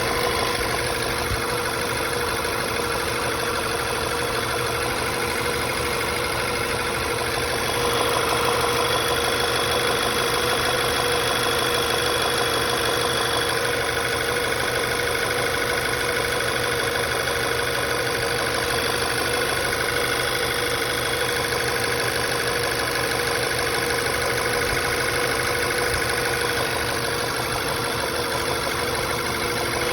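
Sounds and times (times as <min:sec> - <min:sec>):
engine idling with knock: 0:00.0 - 0:29.9.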